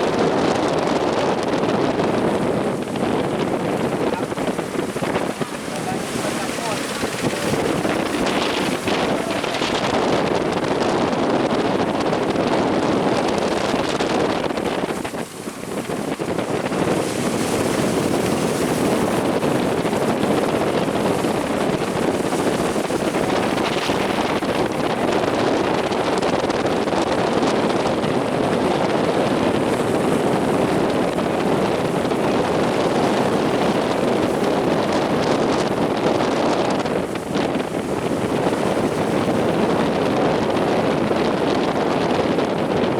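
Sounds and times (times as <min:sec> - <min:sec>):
heavy surf roaring: 0:00.0 - 0:42.9
wind buffeting microphone: 0:00.0 - 0:42.9.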